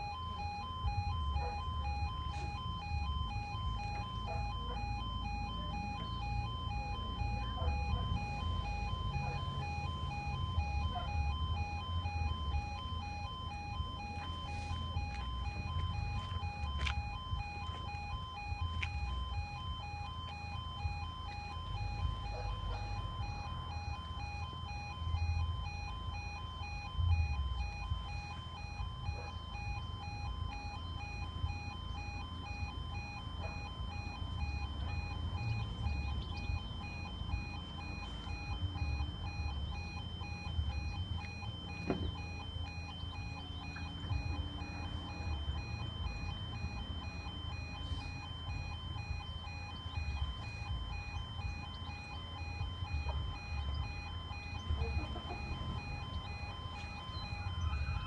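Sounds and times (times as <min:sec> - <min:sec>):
pulsing electronic warning tone: 0:00.0 - 0:58.0.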